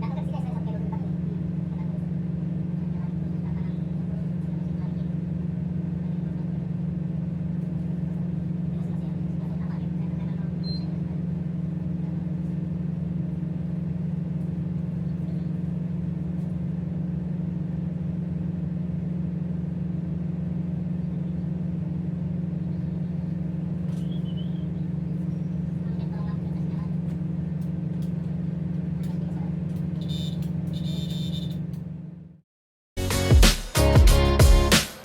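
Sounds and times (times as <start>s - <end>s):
diesel engines droning: 0.0s - 32.4s.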